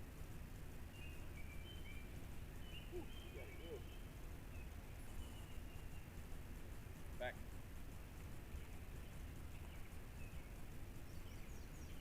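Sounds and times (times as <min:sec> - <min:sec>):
low rumble of wind or water: 0:00.0 - 0:12.0
faint bird chirps: 0:00.5 - 0:12.0.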